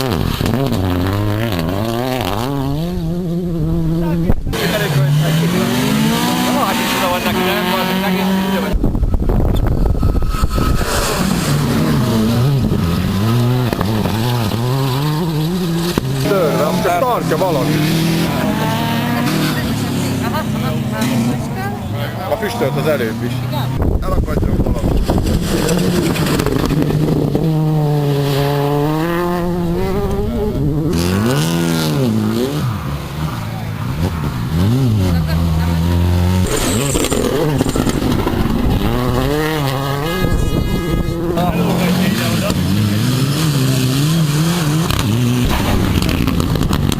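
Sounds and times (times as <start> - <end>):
rough rumbling noise: 0.0 - 21.9, 23.2 - 46.9
rally car engine revving: 0.0 - 46.9.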